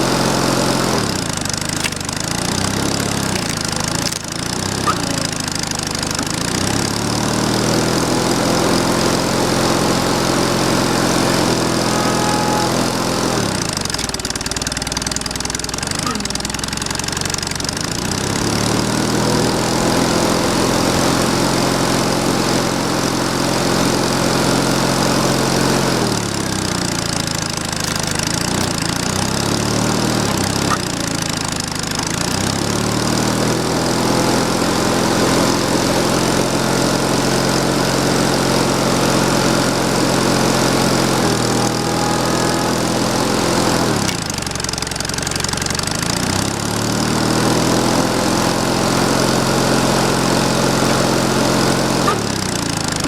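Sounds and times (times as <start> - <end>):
small engine running under load: 0.0 - 53.0.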